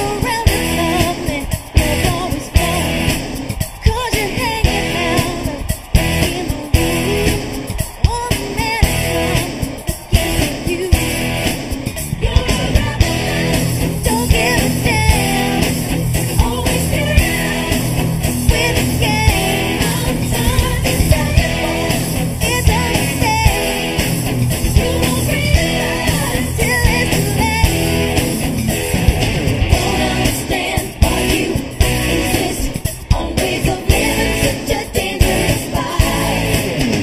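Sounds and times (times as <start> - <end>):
person singing: 0.0 - 28.0, 29.7 - 37.0
drums on driving beat: 0.0 - 37.0
electric guitar: 0.0 - 37.0.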